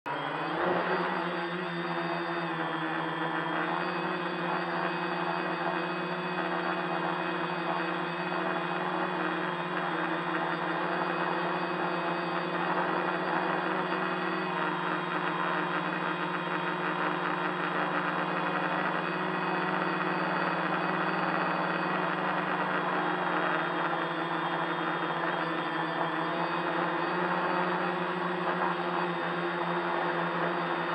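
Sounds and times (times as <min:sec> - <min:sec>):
drone propellers whirring: 0:00.1 - 0:30.9.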